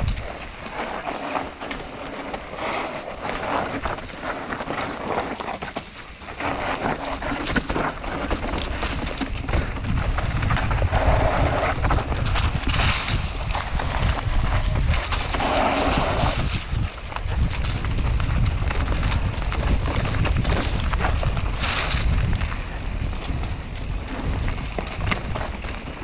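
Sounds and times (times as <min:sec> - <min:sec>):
bike rattling and clicking: 0:00.0 - 0:26.0
bike tyres rolling on dirt: 0:00.0 - 0:26.0
wind on microphone: 0:00.0 - 0:26.0.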